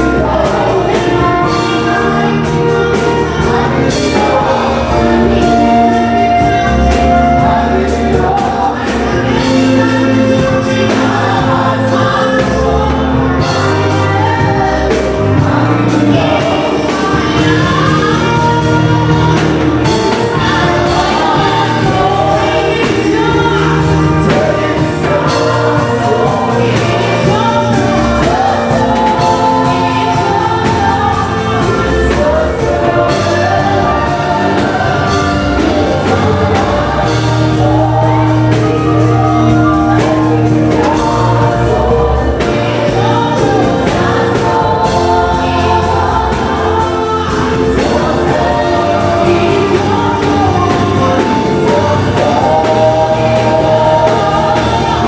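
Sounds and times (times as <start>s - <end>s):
band with steady bass line: 0.0s - 55.0s
choir singing: 0.0s - 55.0s.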